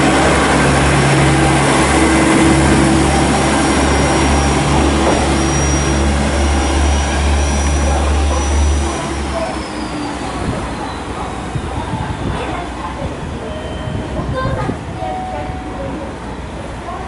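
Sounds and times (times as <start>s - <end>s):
diesel train engines droning: 0.0s - 17.0s
train rattling: 0.0s - 17.0s.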